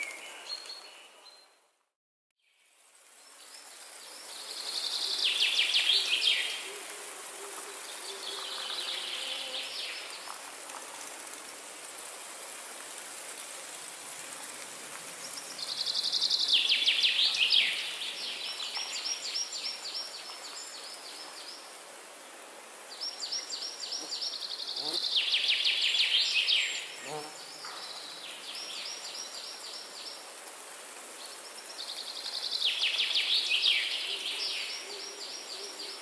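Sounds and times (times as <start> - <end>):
steady high hiss: 2.5 - 36.0.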